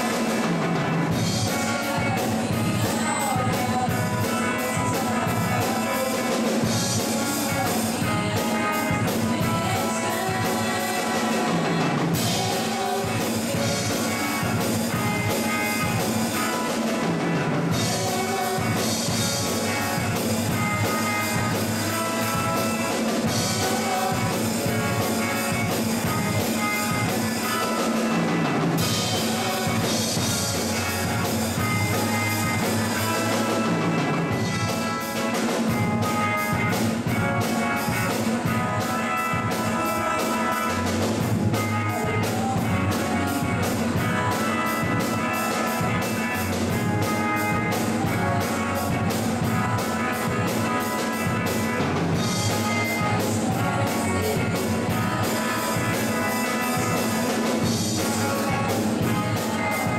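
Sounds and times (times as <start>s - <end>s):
acoustic guitar: 0.0s - 59.9s
drum kit beat: 0.0s - 59.9s
group of singers: 1.1s - 17.0s, 17.7s - 28.2s, 37.0s - 59.9s.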